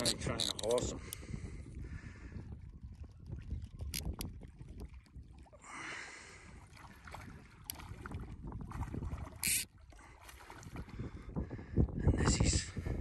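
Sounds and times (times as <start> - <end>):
wind buffeting microphone: 0.0 - 5.6, 6.2 - 13.0.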